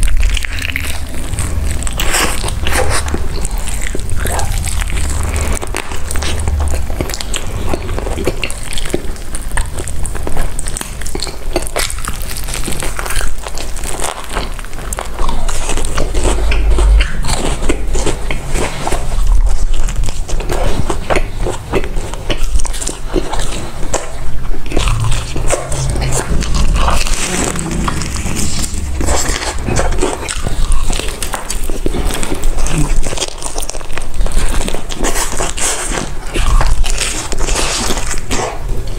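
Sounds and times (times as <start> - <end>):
crunchy chewing of fried food: 0.0 - 38.9.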